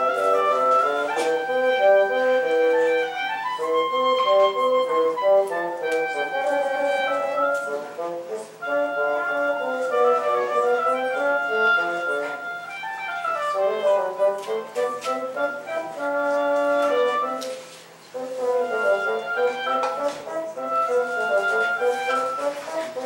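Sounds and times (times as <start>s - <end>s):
bassoon playing: 0.0s - 23.0s
higher double-reed instrument: 0.0s - 23.0s.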